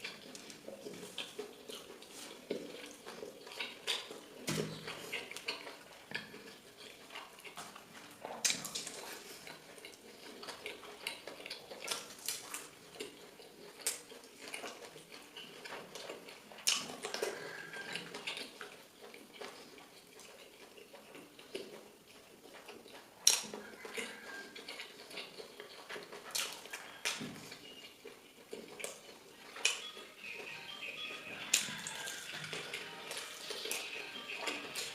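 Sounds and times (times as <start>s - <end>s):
person eating: 0.0s - 34.9s.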